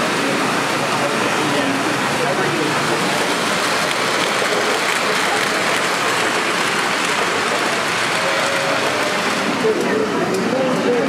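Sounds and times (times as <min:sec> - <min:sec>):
model train wheels rolling on rails: 0:00.0 - 0:11.0.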